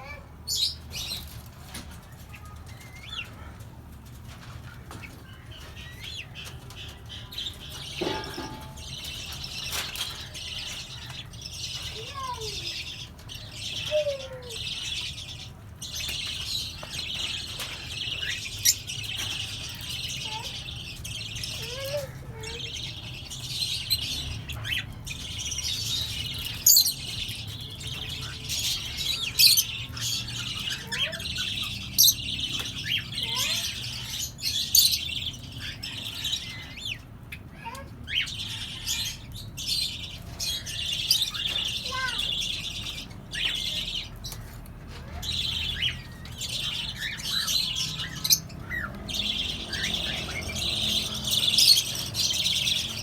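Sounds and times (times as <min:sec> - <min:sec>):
birds chattering: 0:00.0 - 0:53.0.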